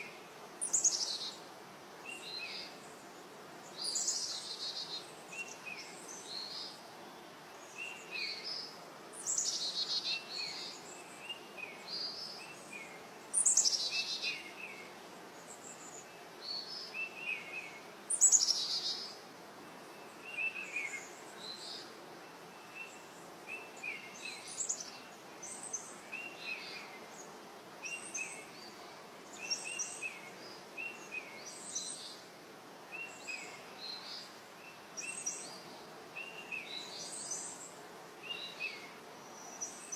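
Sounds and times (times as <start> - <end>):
outdoor hiss: 0.0 - 39.9.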